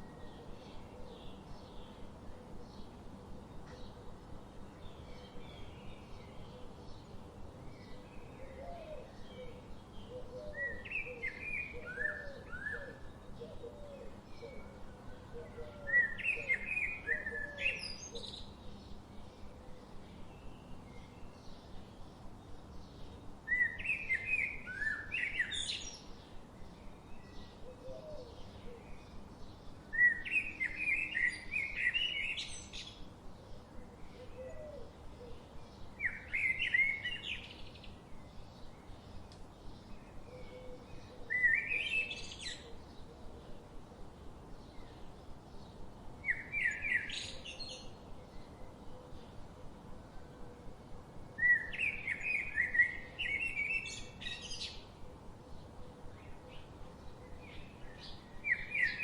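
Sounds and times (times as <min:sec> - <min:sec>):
faint bird chirping: 0:00.0 - 0:59.0.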